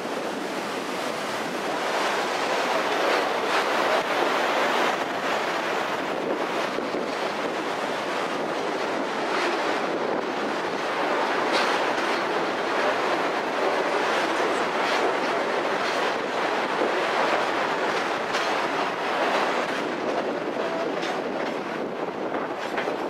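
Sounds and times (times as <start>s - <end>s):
train rolling on rails: 0.0s - 23.0s
wind rushing over train car: 0.0s - 23.0s.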